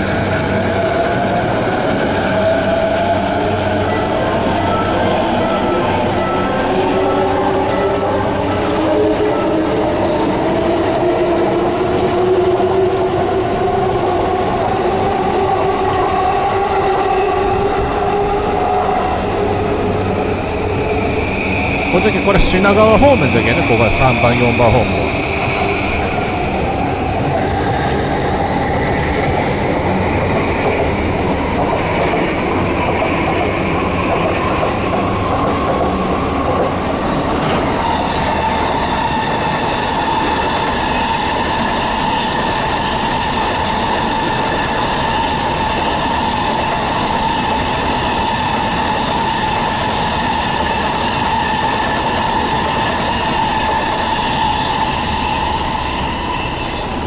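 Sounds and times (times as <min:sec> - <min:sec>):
electric train high whine: 0:00.0 - 0:57.0.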